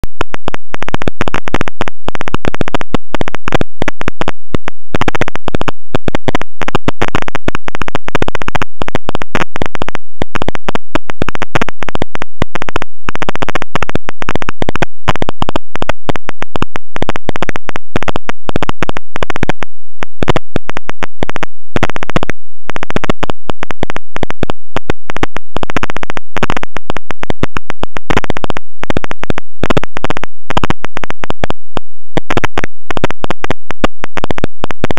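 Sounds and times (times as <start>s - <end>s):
electrical buzzing and crackling: 0.0s - 34.9s.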